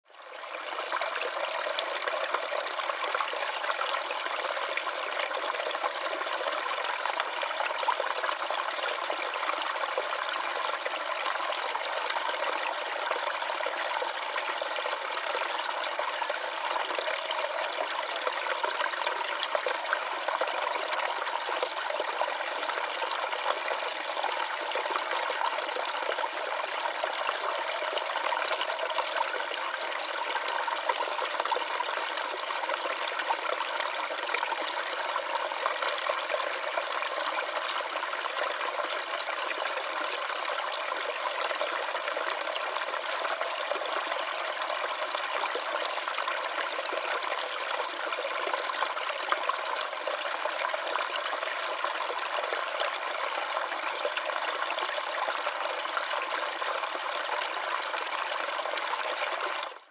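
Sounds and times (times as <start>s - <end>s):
stream running over rocks: 0.3s - 59.9s.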